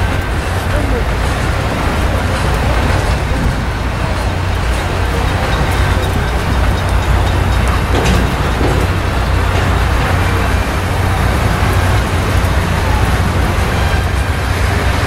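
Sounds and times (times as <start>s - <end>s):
train cars rumbling on rails: 0.0s - 15.0s.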